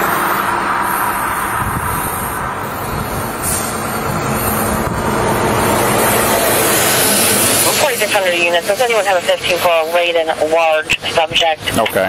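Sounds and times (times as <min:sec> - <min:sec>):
highway traffic rushing: 0:00.0 - 0:12.0
large truck approaching: 0:00.0 - 0:12.0.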